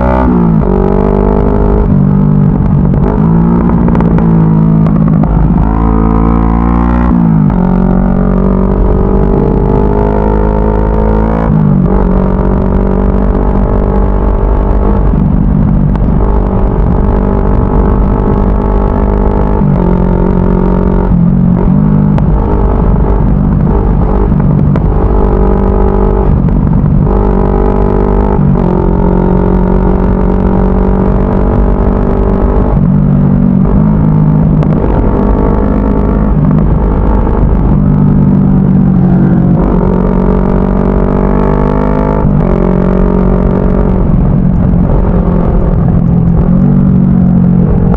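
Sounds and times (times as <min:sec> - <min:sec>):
motorcycle engine droning: 0:00.0 - 0:47.9.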